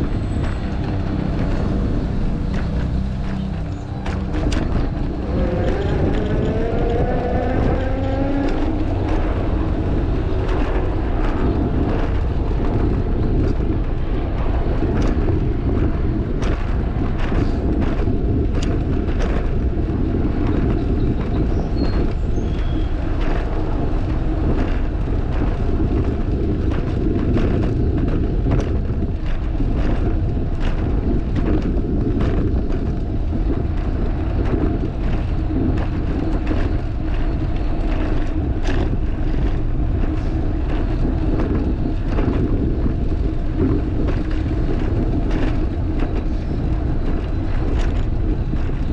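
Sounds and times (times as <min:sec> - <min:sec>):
bicycle tyres rolling: 0:00.0 - 0:48.9
wind rushing over microphone: 0:00.0 - 0:48.9.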